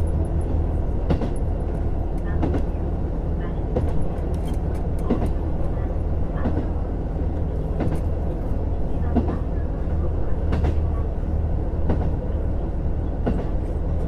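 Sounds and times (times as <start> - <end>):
railcar engine drone: 0.0 - 14.0.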